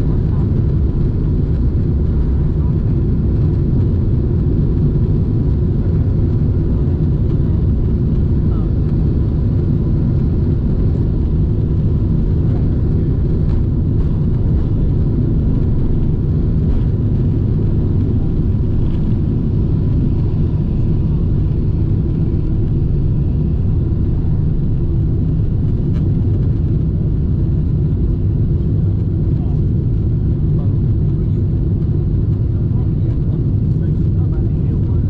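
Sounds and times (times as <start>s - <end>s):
airliner cabin engine rumble: 0.0s - 35.0s.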